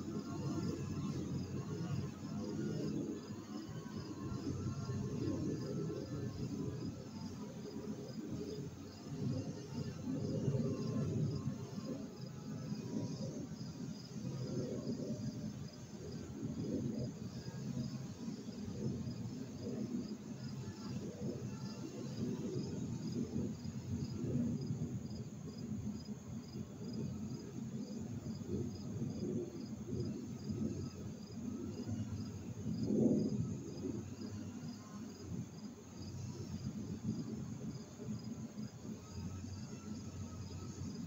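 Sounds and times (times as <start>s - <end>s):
cricket chirping: 0.0s - 41.0s.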